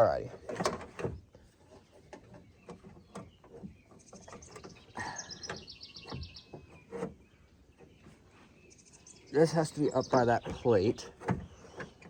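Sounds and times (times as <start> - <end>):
bird chirping trill: 2.3 - 12.0.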